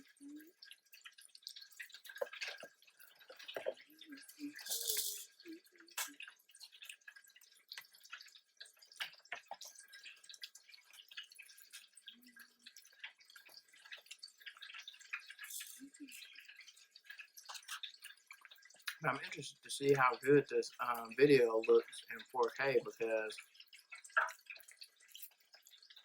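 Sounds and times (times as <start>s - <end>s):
close-up chewing and mouth sounds: 0.0s - 26.0s.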